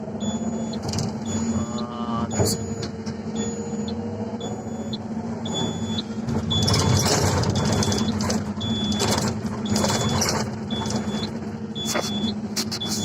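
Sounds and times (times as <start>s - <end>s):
diesel machinery running: 0.0s - 13.0s
warning alarm beeping: 0.0s - 13.0s.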